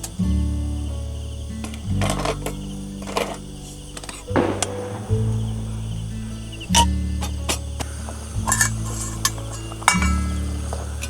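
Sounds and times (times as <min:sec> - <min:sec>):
background music with low notes: 0:00.0 - 0:11.0.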